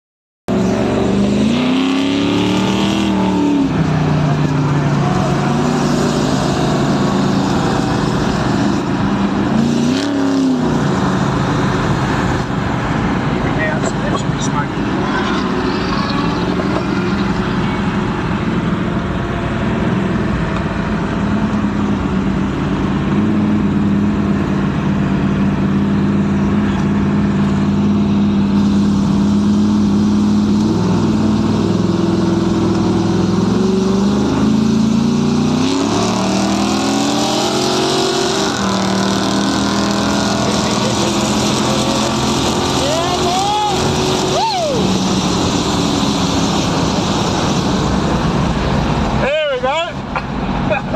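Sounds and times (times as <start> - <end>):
car engines accelerating hard: 0.5 - 50.9.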